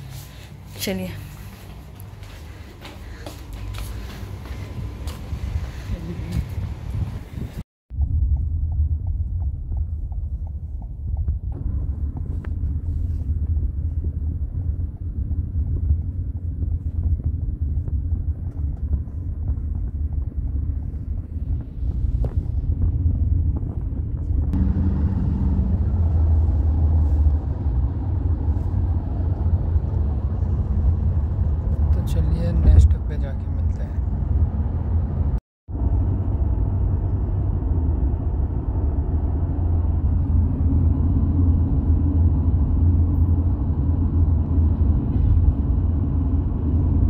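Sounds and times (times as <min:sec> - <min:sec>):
road and wind hiss: 0:00.0 - 0:07.6, 0:11.5 - 0:47.0
car road rumble: 0:00.0 - 0:47.0.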